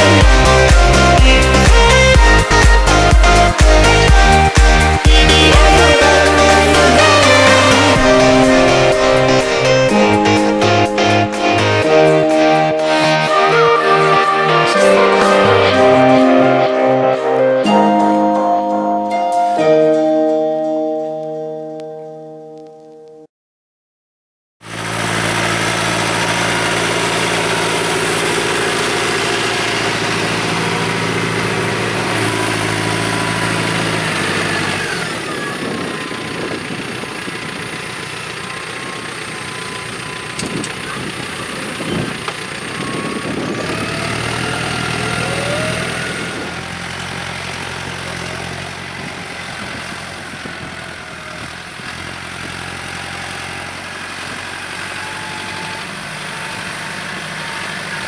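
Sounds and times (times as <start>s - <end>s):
tractor diesel engine running: 0.0s - 21.2s, 24.6s - 58.0s.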